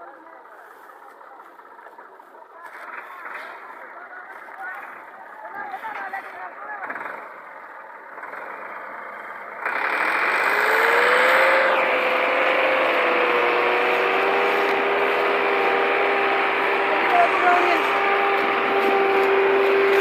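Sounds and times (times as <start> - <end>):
tractor engine revving: 0.0 - 20.0.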